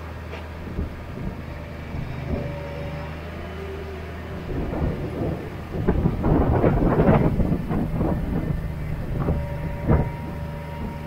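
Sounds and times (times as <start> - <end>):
rough rattling and knocking: 0.0 - 11.0
tractor engine running: 0.0 - 11.0.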